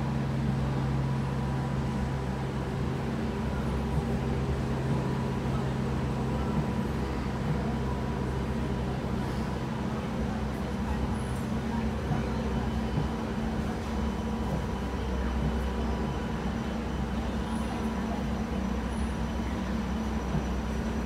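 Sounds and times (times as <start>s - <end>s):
station background noise: 0.0s - 21.0s
train electrical hum: 0.0s - 21.0s.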